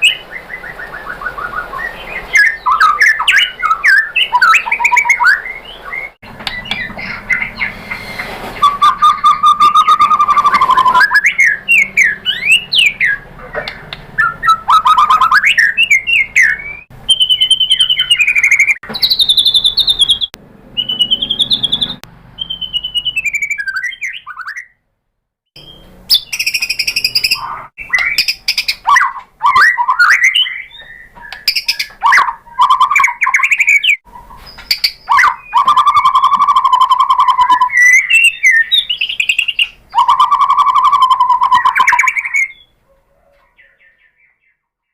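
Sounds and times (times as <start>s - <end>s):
bird singing whistled phrases: 0.0s - 24.8s, 25.6s - 44.6s.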